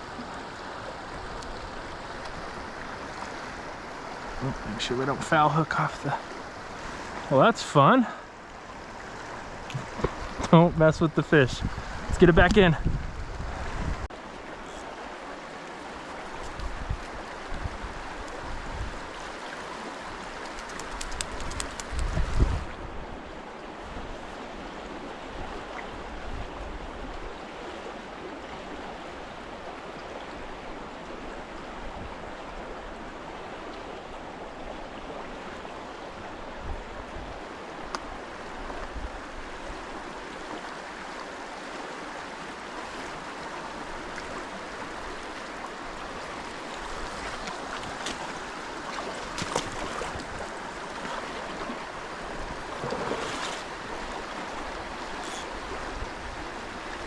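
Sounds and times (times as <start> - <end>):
river water rushing: 0.0 - 21.6, 22.3 - 57.0.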